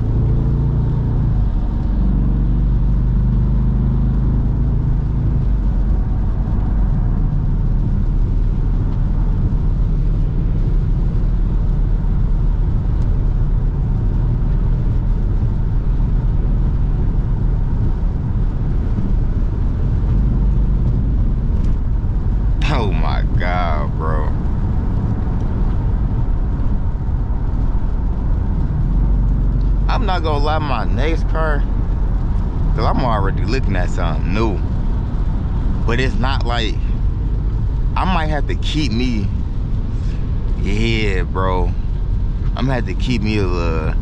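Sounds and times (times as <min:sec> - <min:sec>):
car exhaust droning: 0:00.0 - 0:44.0.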